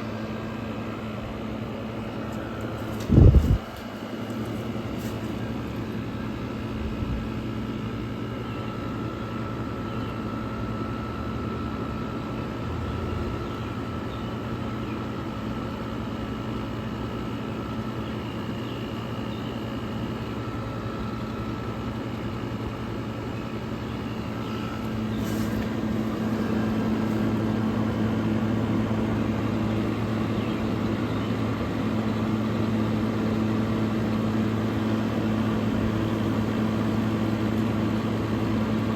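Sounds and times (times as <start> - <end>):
air conditioner fan whoosh: 0.0 - 38.9
motor and compressor hum: 0.0 - 38.9.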